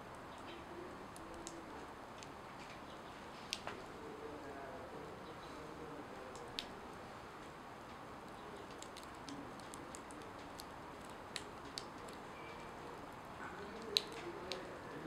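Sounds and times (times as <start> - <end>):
crackles of smouldering tortilla: 0.0 - 15.0
steady low hiss: 0.0 - 15.0.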